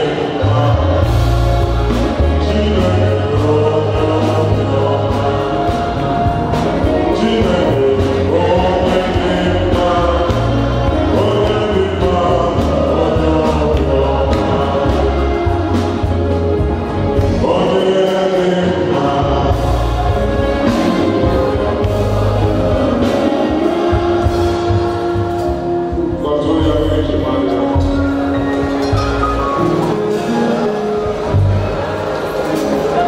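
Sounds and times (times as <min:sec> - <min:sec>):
choir singing gospel: 0:00.0 - 0:33.0
instrumental backing with bass: 0:00.0 - 0:33.0.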